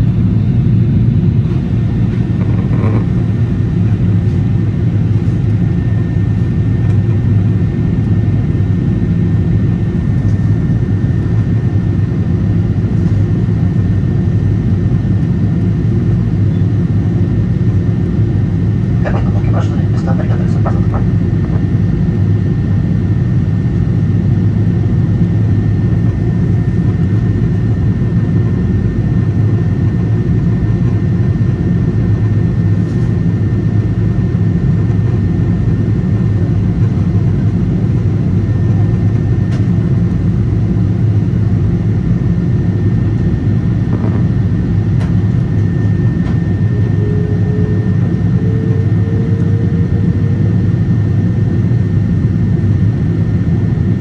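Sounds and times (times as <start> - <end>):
jet engines rumbling: 0.0 - 54.0
thin steady whine: 0.0 - 54.0.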